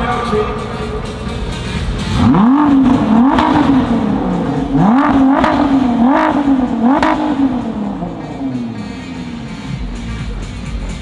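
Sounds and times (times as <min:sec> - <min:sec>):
car engine revving: 0:00.2 - 0:11.0.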